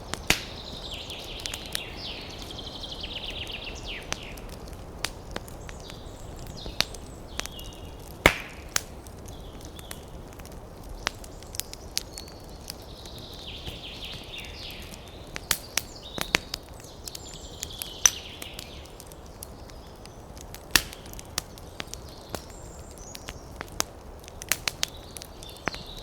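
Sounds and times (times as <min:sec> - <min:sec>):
birds chirping: 0:00.0 - 0:26.0
campfire crackling and popping: 0:00.0 - 0:26.0.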